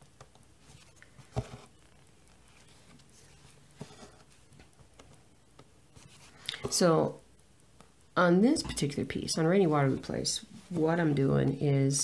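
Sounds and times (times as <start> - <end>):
soft rustles: 0.2 - 7.0, 8.8 - 12.0.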